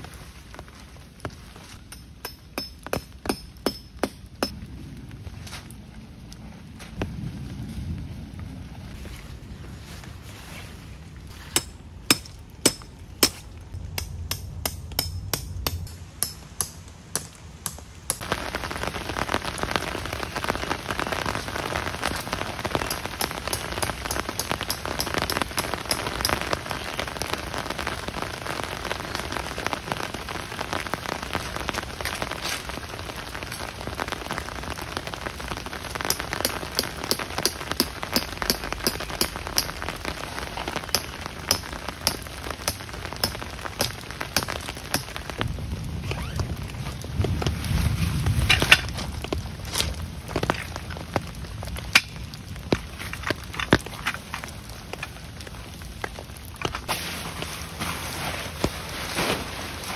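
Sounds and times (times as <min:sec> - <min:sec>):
heavy downpour: 0:00.0 - 0:10.2, 0:10.9 - 0:59.9
large raindrops striking: 0:00.0 - 0:10.2, 0:11.1 - 0:59.9.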